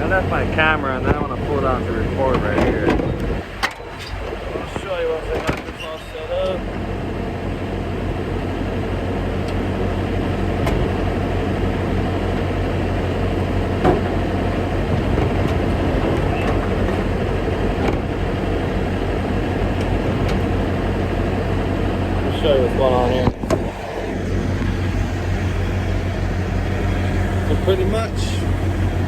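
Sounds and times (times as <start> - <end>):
diesel truck engine idling: 0.0 - 29.0.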